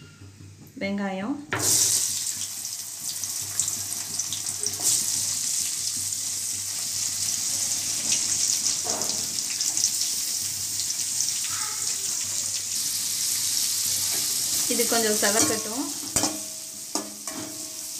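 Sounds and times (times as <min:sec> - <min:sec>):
onions sizzling in hot oil: 0:01.5 - 0:17.9.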